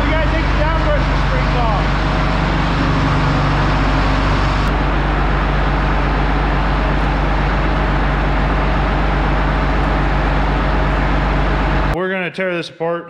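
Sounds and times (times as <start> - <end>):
loud rushing machine noise: 0.0 - 12.0
low hum: 0.0 - 12.0.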